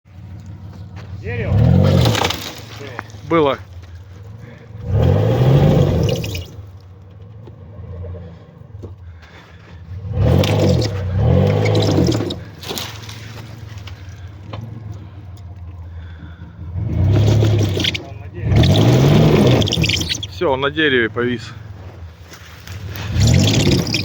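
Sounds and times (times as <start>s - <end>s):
off-road vehicle engine revving: 0.1s - 24.0s.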